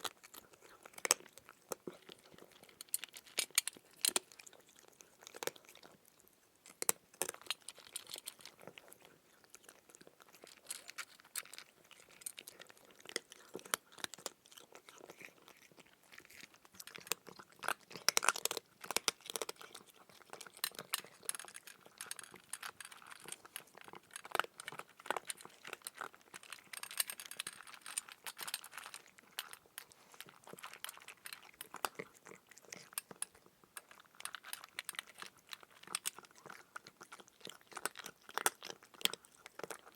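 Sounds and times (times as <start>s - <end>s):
cat chewing crunchy food: 0.0s - 39.9s.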